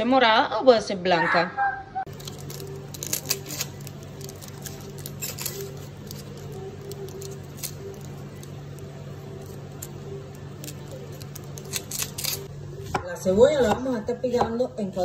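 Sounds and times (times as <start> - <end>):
steady low hum: 1.6 - 15.0
knife peeling onion skin crackling: 2.1 - 14.6.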